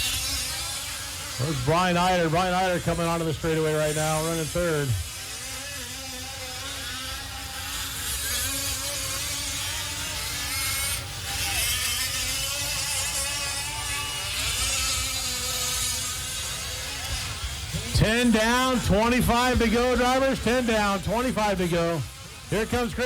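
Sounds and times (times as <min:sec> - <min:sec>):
small two-stroke engines revving: 0:00.0 - 0:23.0.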